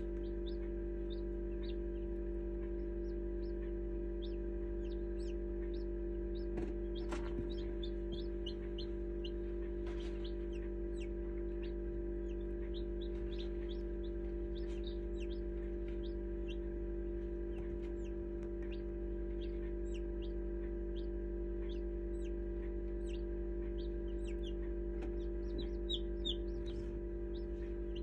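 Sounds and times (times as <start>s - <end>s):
chicks peeping: 0.0s - 28.0s
incubator hum: 0.0s - 28.0s.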